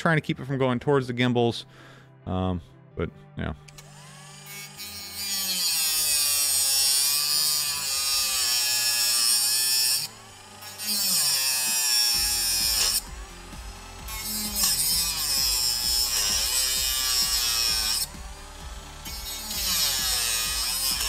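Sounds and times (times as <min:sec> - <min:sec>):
rotary tool grinding metal: 0:03.7 - 0:21.0.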